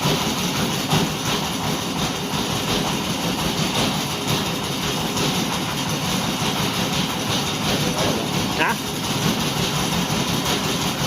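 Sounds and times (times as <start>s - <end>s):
engine running with rattling rumble: 0.0s - 11.0s.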